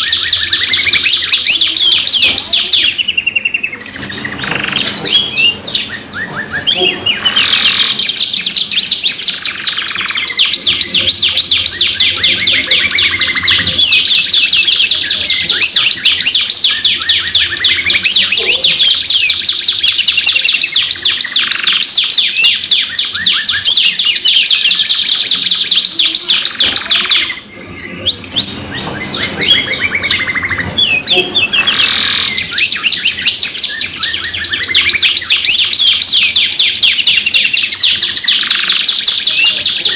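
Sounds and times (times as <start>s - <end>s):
canaries trilling: 0.0s - 39.9s.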